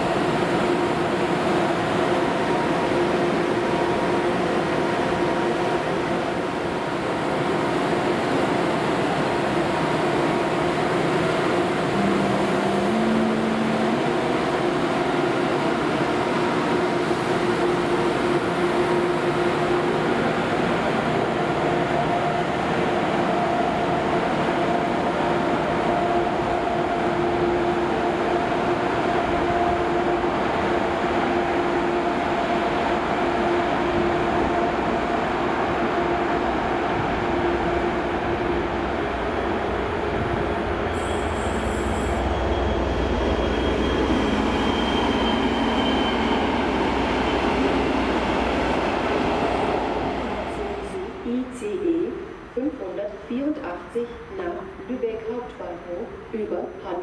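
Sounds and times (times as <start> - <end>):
electric train humming and whining: 0.0 - 57.0.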